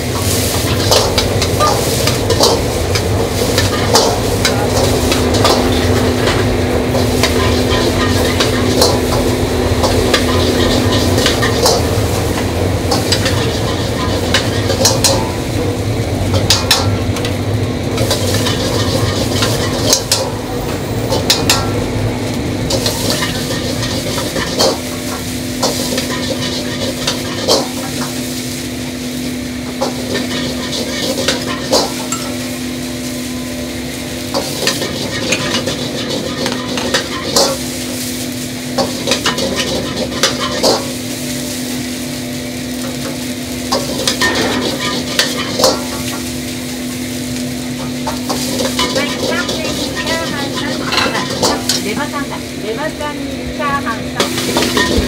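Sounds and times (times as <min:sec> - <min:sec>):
ladle scraping and clanking wok: 0:00.0 - 0:53.0, 0:54.1 - 0:55.0
rice sizzling in a wok: 0:00.0 - 0:55.0.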